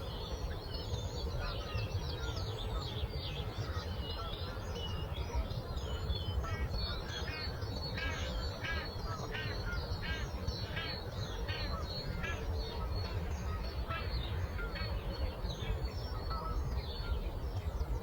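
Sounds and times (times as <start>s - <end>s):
low rumble of breeze: 0.0s - 18.0s
songbirds chirping and singing: 0.0s - 18.0s.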